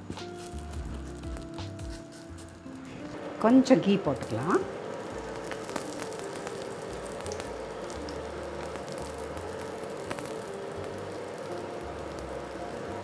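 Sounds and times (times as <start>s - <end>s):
flatbread sizzling in ghee: 0.0s - 13.0s.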